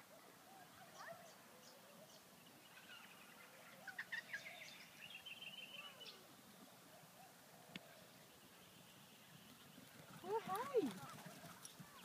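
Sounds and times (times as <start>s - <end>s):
faint birdsong chirps and trill: 0.0s - 12.0s.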